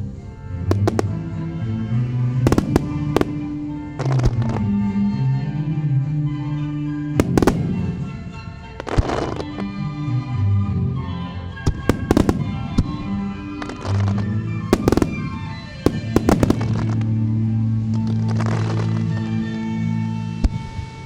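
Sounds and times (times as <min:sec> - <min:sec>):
fireworks bursting with crackling: 0:00.0 - 0:19.7
music with long held notes: 0:00.0 - 0:21.0.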